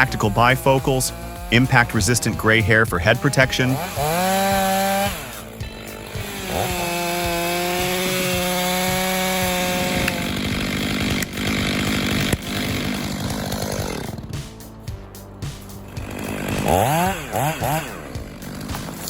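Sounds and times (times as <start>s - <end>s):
chainsaw revving cutting wood: 0.0s - 19.0s.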